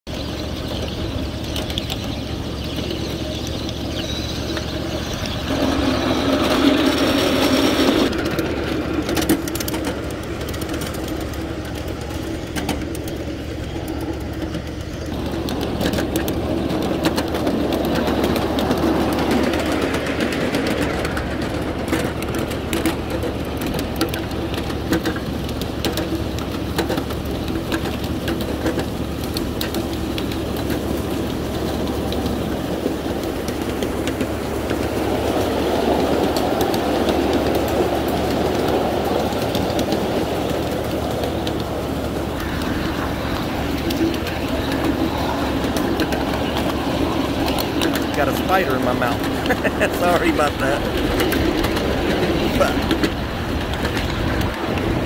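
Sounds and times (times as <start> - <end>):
ride-on train humming: 0.0 - 55.0
wheels clicking over rail joints: 0.1 - 55.0.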